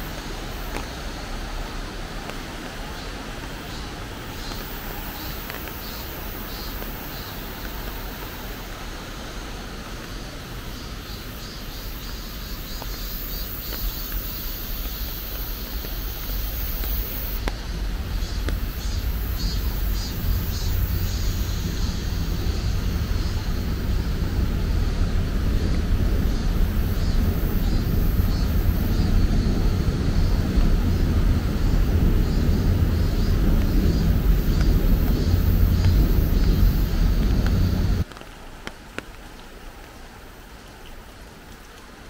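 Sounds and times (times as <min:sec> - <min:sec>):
stream rushing: 0:00.0 - 0:42.0.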